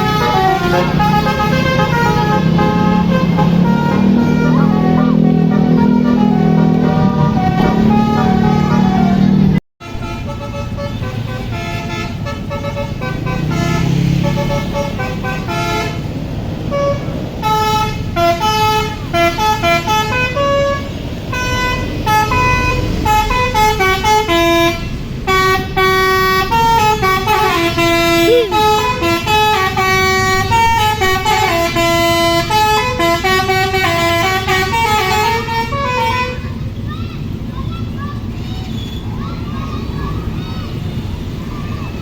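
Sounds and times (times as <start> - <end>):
musical air horns tune: 0.0 - 36.4
bus engine rumble: 0.0 - 42.0.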